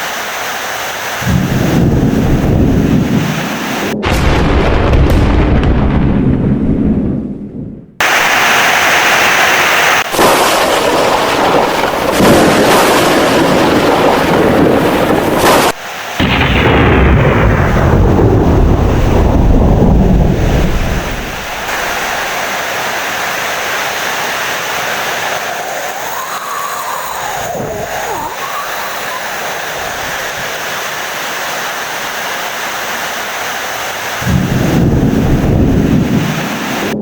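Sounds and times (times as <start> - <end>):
heavy rain: 0.0 - 4.2, 8.0 - 37.0
rolling thunder: 1.2 - 8.3, 10.0 - 30.6, 34.2 - 37.0.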